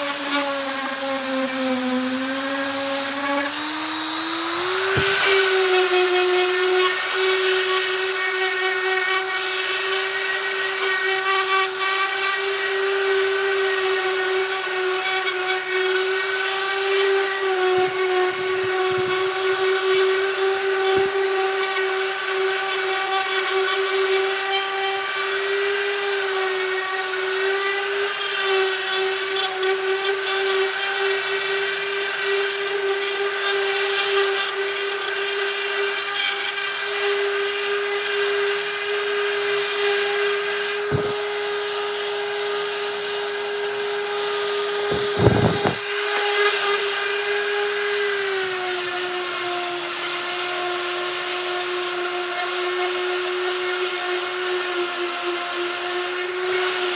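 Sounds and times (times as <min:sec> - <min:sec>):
sander motor whining: 0:00.0 - 0:56.9.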